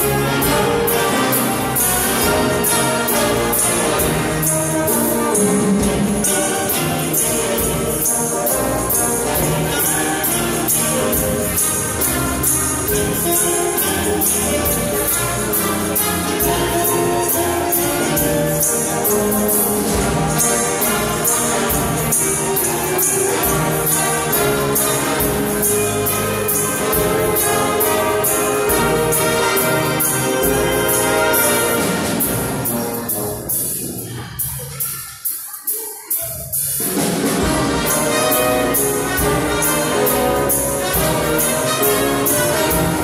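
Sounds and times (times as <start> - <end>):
brass band playing swing: 0.0 - 34.5, 36.4 - 43.0.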